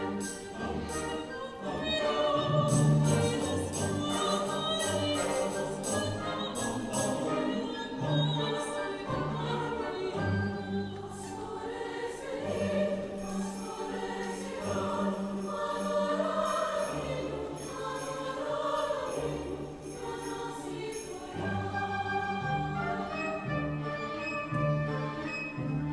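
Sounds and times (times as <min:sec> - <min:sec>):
choir singing slow chords: 0:00.0 - 0:25.9.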